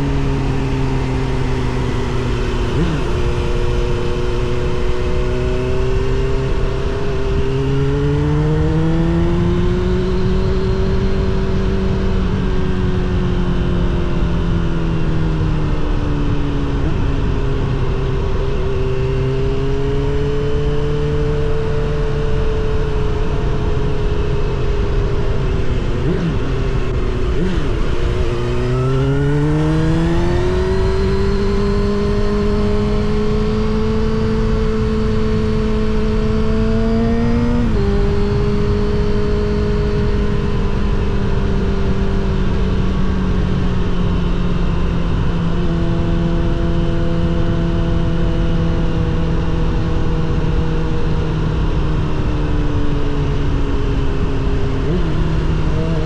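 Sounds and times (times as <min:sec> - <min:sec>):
motorcycle engine and exhaust: 0:00.0 - 0:56.0
wind and road noise: 0:00.0 - 0:56.0.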